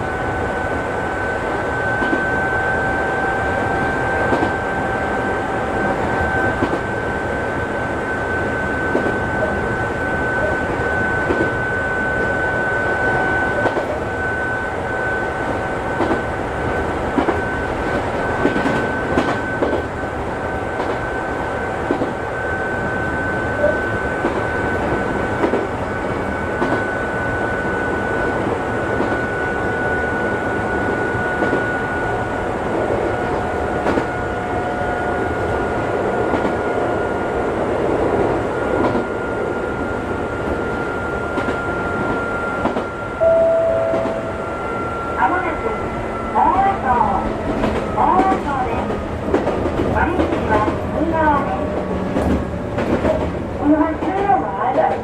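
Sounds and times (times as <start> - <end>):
high whine from running gear: 0.0 - 37.6, 38.4 - 48.1
electric train rumble: 0.0 - 55.0.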